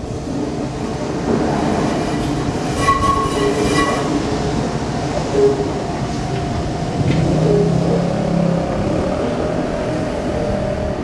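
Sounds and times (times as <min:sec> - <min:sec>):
electric train rumble with whine: 0:00.0 - 0:11.0.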